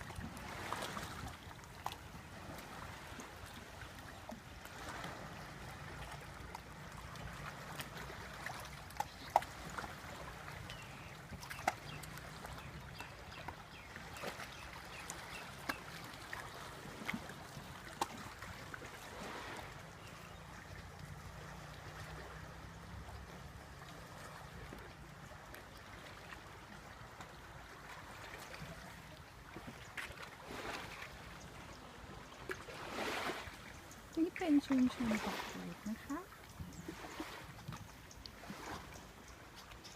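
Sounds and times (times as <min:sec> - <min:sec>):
water lapping against boat: 0:00.0 - 0:39.9.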